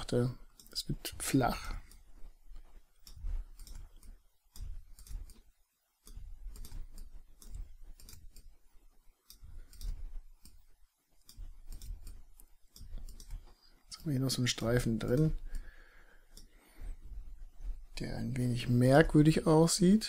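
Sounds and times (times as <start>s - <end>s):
computer mouse clicking: 0.0s - 19.6s.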